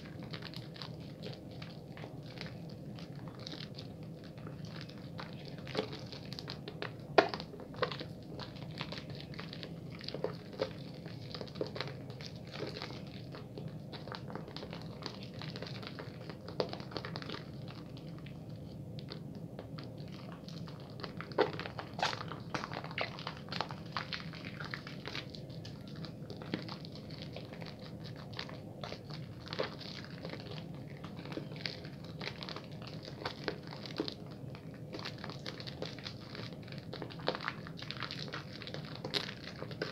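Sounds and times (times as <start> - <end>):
lather crackles and pops: 0.0 - 39.9
low background noise: 0.0 - 39.9
wet soap squishing: 0.0 - 39.9.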